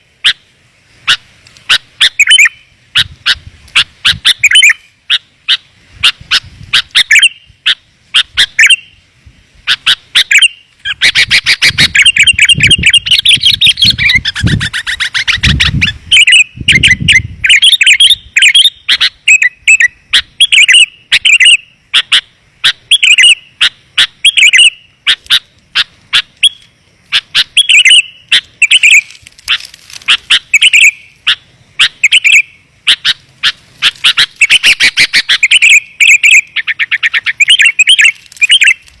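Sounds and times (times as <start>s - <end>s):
bird chirping loudly: 1.0s - 9.0s, 9.6s - 38.9s.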